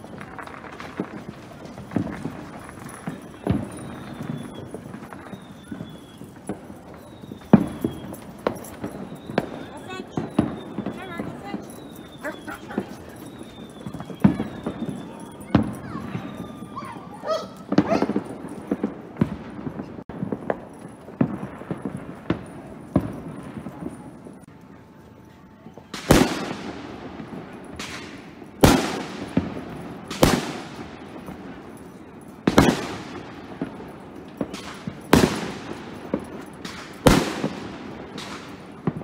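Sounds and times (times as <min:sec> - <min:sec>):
firecrackers cracking and popping: 0:00.0 - 0:24.8, 0:25.4 - 0:39.0
fireworks bangs with echo: 0:00.0 - 0:24.8, 0:25.6 - 0:39.0.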